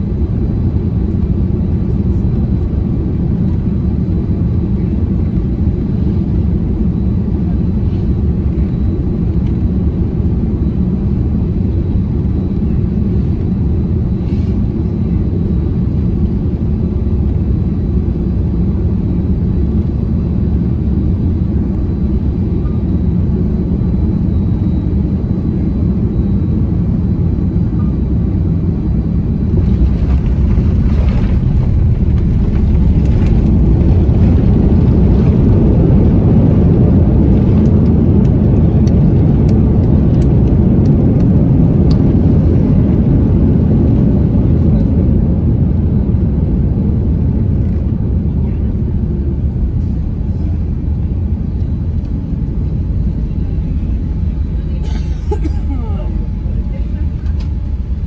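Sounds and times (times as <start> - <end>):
aircraft cabin engine rumble: 0.0 - 58.0
aircraft touching down: 0.0 - 58.0.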